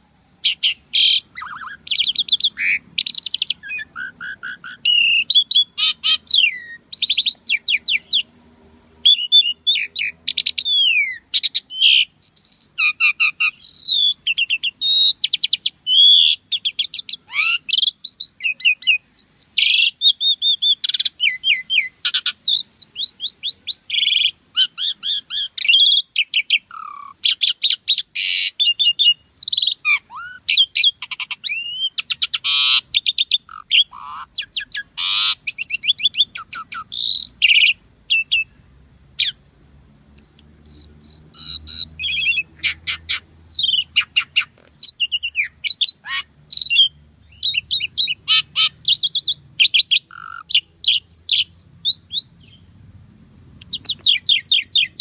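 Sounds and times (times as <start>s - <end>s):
starling singing: 0.0s - 38.6s, 39.2s - 39.4s, 40.2s - 52.7s, 53.6s - 55.0s.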